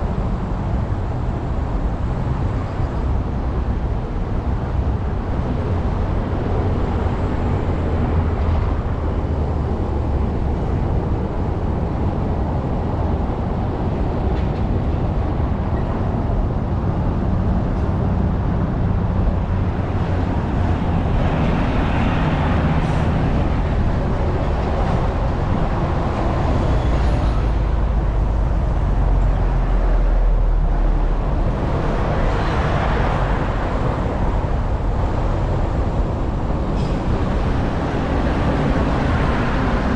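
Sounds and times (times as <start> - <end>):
passing street traffic: 0.0 - 39.9
wind and road noise: 0.0 - 39.9.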